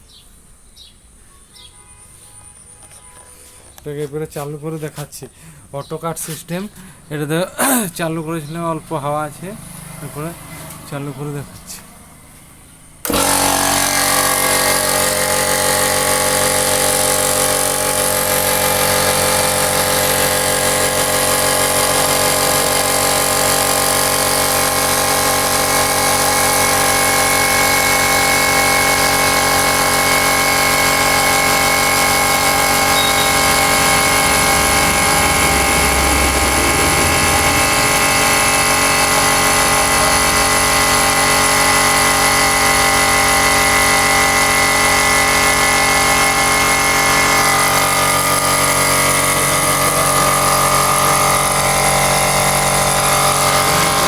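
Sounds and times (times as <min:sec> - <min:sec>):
electric air compressor running: 0:06.2 - 0:54.0.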